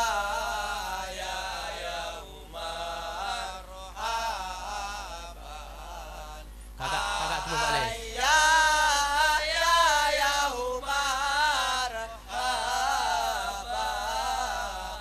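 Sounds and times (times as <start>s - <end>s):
devotional chanting over loudspeaker: 0.0s - 15.0s.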